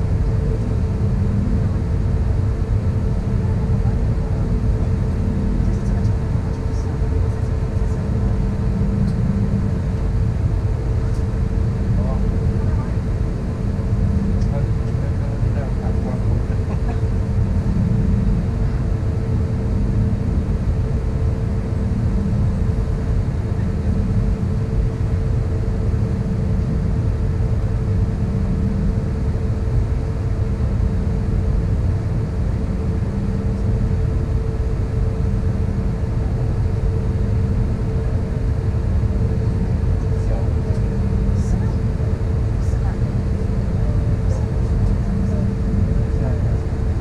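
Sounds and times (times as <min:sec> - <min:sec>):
airplane cabin engine rumble: 0:00.0 - 0:47.0.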